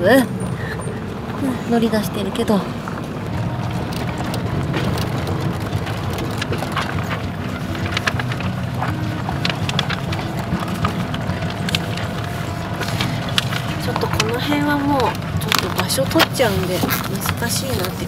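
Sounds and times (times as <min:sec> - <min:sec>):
van engine and road hum: 0:00.0 - 0:18.0
small clicks and rattles: 0:02.4 - 0:18.0.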